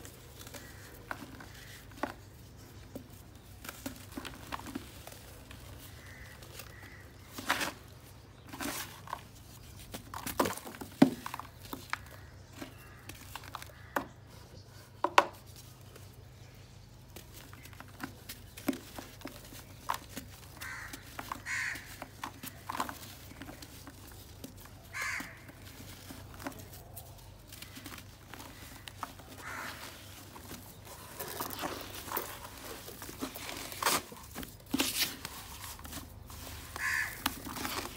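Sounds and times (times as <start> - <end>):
clay lumps cracking: 0.0 - 14.3, 15.2 - 37.9
dry clay lumps crunching by hand: 0.0 - 14.8, 15.4 - 37.9.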